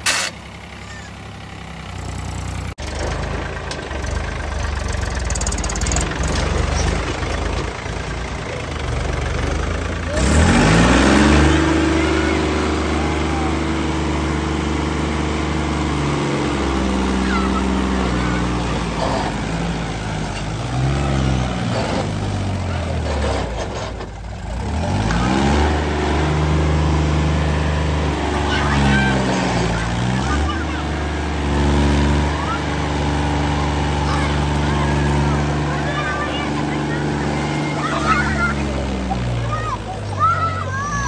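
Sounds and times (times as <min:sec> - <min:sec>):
tractor diesel engine revving: 0:00.0 - 0:41.0
wheels churning mud: 0:00.0 - 0:41.0.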